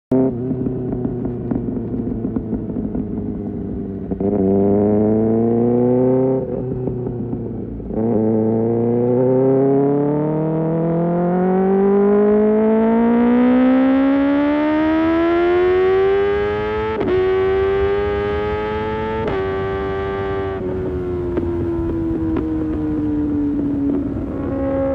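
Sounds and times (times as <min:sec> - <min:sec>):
motorcycle engine accelerating: 0:00.1 - 0:24.9.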